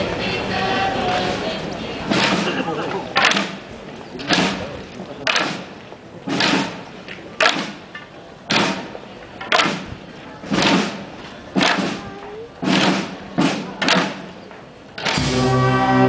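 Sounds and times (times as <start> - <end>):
drum beating slow march: 0.0 - 16.0.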